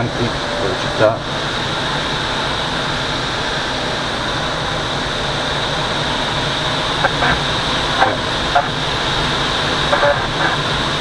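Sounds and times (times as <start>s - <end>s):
airflow over glider canopy: 0.0s - 11.0s.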